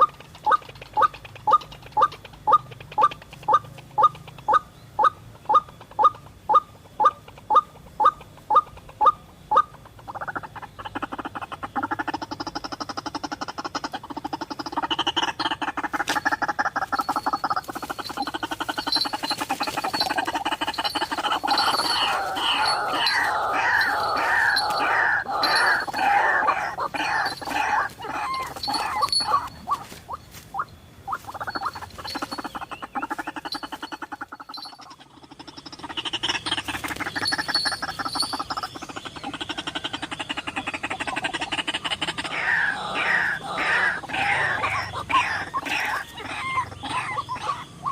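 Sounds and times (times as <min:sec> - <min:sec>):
bird croaking call: 0:00.0 - 0:47.9.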